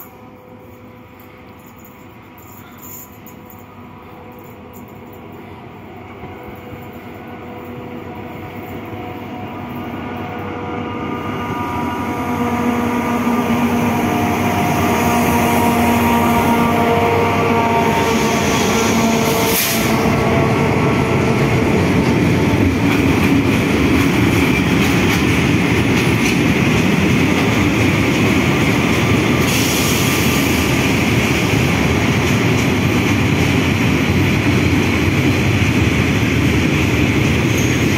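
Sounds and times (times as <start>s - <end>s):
locomotive engines droning: 0.0s - 37.9s
train rolling noise: 0.0s - 37.9s.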